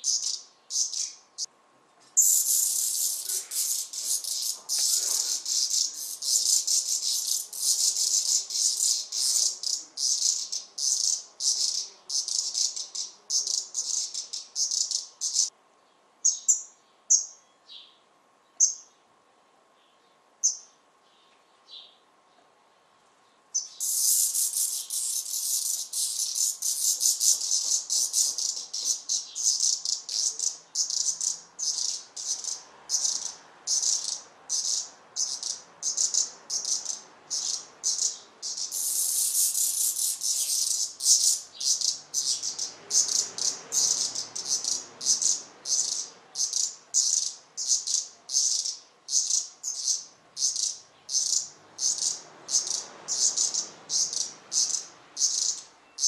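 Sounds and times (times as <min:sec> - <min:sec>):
nestlings begging hiss calls: 0:00.0 - 0:01.5, 0:02.2 - 0:15.5, 0:23.6 - 0:55.7.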